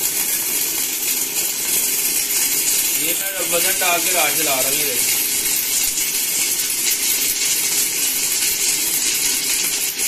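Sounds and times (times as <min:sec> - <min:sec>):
welding arc crackling hiss: 0:00.0 - 0:10.0.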